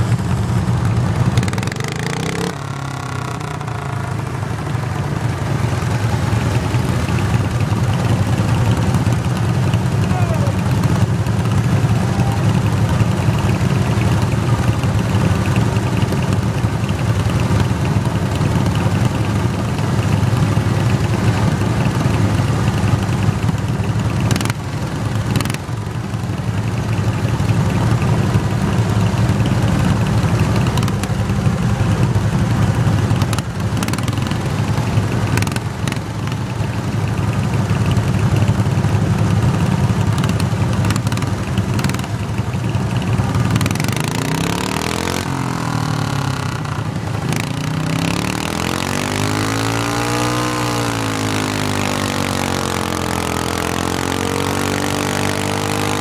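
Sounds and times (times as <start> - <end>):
garden tractor engine running: 0.0 - 52.2.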